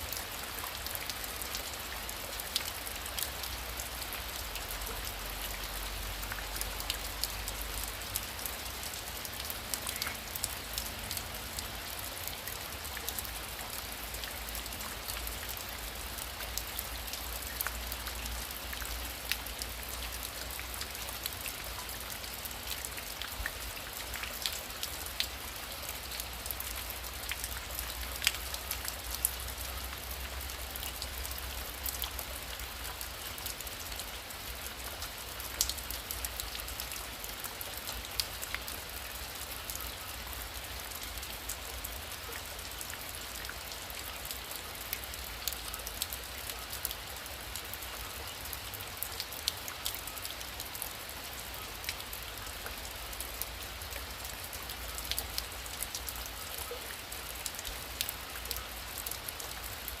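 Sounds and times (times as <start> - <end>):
rain drops ticking on surface: 0.0 - 60.0.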